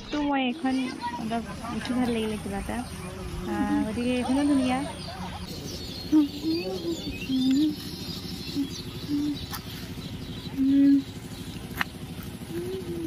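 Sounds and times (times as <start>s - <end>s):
high bird chirps: 0.0s - 12.0s
low bird cooing: 0.0s - 13.0s.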